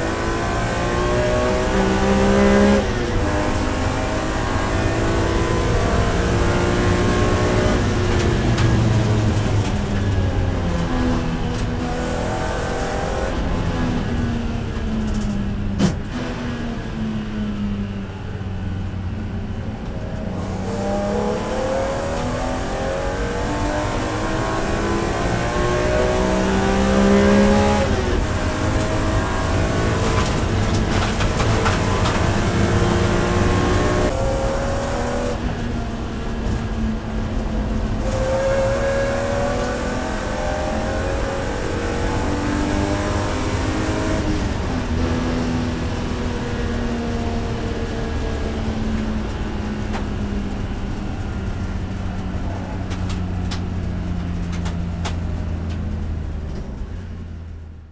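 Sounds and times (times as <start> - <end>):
racing engine at high revs: 0.0 - 18.0, 18.7 - 57.1.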